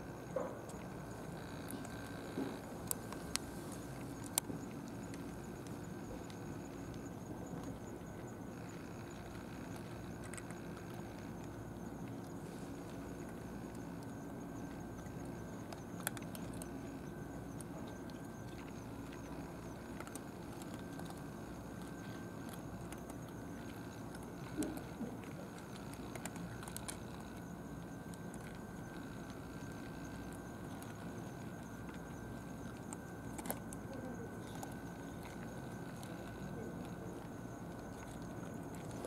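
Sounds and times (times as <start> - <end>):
cats crunching kibble: 0.0 - 39.0
outdoor background hum: 0.0 - 39.0.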